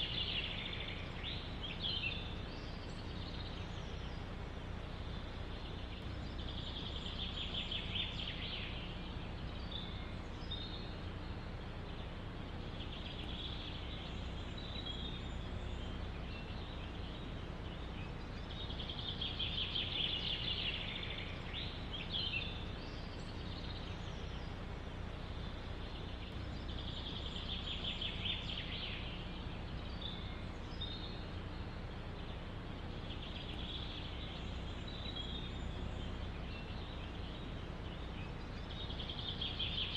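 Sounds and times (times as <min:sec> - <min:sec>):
songbird trilling: 0:00.0 - 0:39.9
wind through forest trees: 0:00.0 - 0:39.9.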